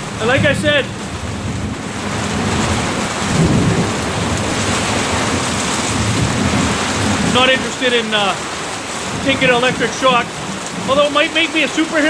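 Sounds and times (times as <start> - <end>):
heavy rain pouring: 0.0 - 12.0
rolling thunder rumble: 0.0 - 12.0.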